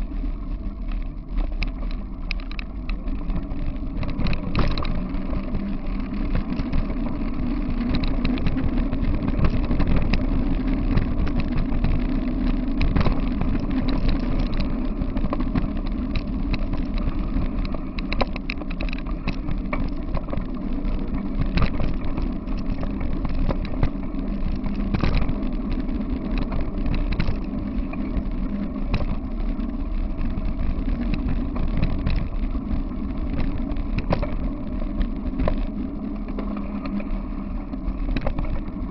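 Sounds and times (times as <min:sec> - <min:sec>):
wheels rolling over gravel: 0:00.0 - 0:38.9.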